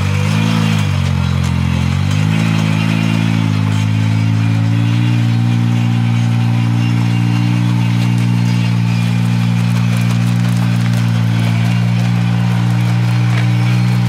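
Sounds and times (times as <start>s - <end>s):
vehicle engine running at low revs: 0.0s - 14.0s.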